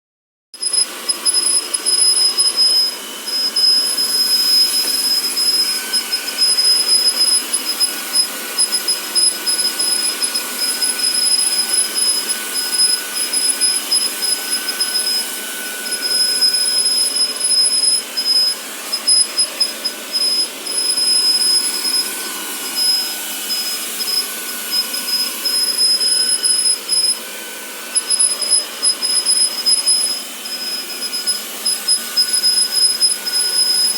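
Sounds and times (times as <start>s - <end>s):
vacuum cleaner airflow hiss: 0.6s - 33.9s
vacuum cleaner high-pitched squeak: 0.6s - 33.9s.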